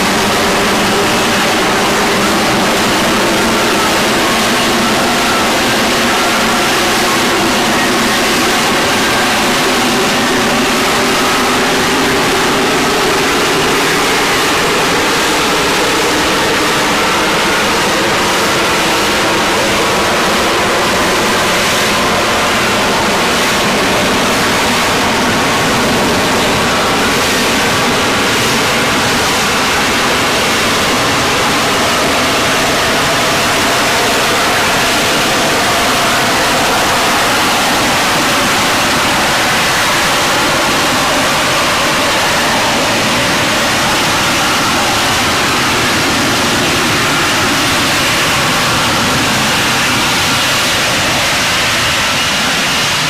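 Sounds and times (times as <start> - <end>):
jet engine running: 0.0 - 53.0.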